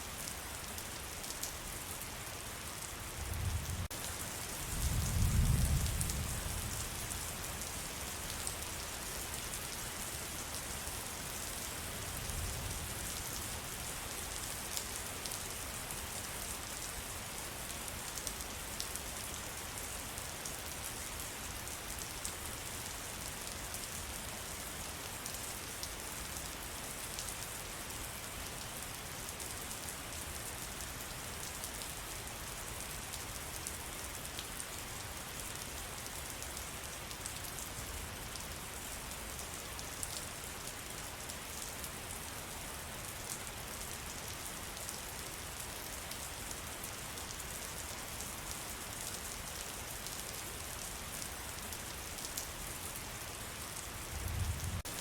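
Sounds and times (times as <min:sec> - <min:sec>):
rain falling in forest: 0:00.0 - 0:55.0.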